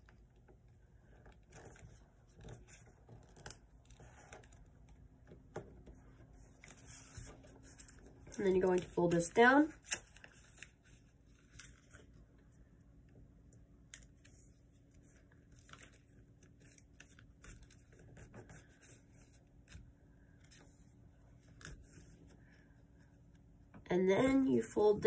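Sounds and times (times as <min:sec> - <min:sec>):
paper being folded and creased: 0:00.0 - 0:12.2, 0:13.9 - 0:23.4.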